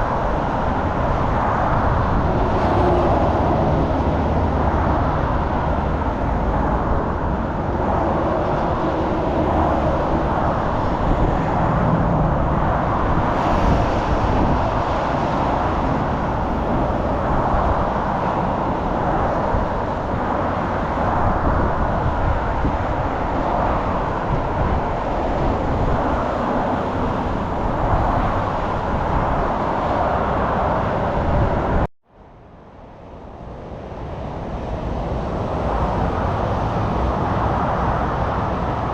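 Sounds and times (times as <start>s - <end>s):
road traffic hum: 0.0s - 38.9s.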